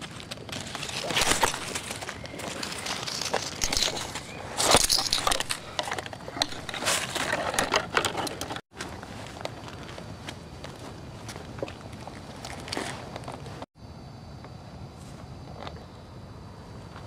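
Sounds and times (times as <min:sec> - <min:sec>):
twigs scraping and snapping: 0:00.0 - 0:13.7.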